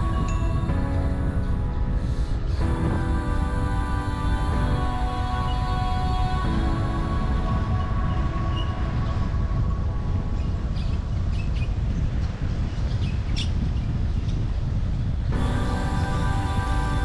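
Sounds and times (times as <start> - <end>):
background music: 0.0 - 12.4, 15.3 - 17.0
wind rumble on microphone: 0.0 - 17.0.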